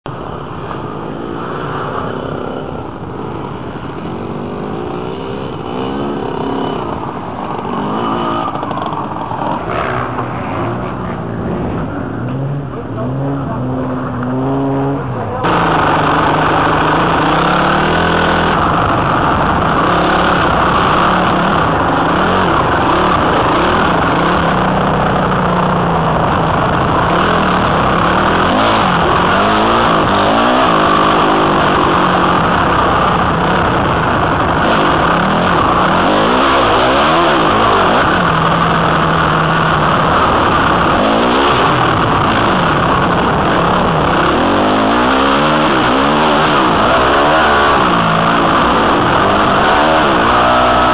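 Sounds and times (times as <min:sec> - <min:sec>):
dirt bike engine revving: 0:00.2 - 0:50.9.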